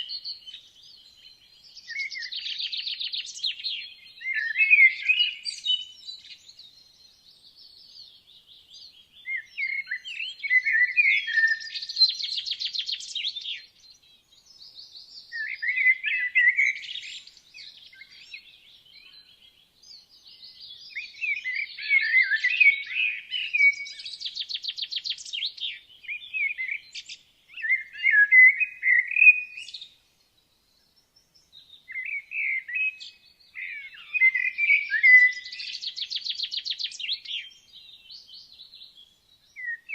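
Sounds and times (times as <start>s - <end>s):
songbirds singing with trills: 0.0s - 39.9s.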